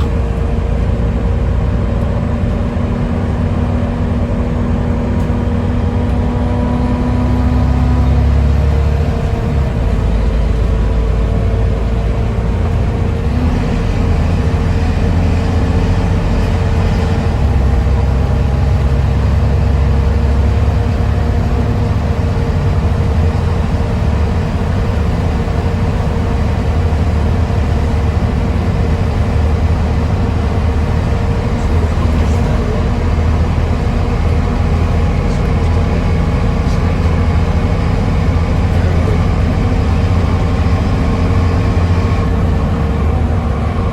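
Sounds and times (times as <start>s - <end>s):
bus diesel engine drone: 0.0s - 43.9s
steady whine: 0.0s - 43.9s.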